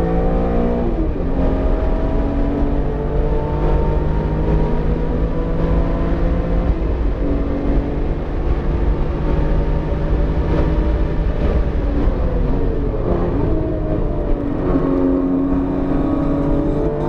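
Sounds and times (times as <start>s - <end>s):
car engine running under load: 0.0s - 17.0s.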